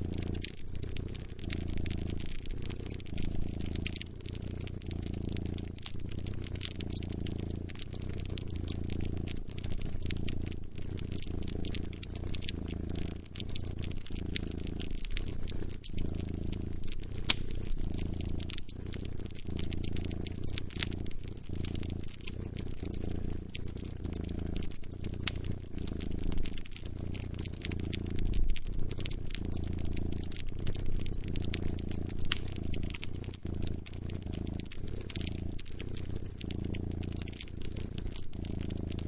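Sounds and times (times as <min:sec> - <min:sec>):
cat purring: 0:00.0 - 0:39.0
wood fire crackling and popping: 0:00.0 - 0:39.0.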